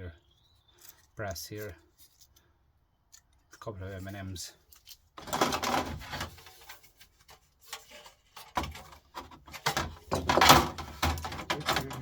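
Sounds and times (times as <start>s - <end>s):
scraping and rubbing: 0.7s - 2.5s, 3.1s - 12.0s.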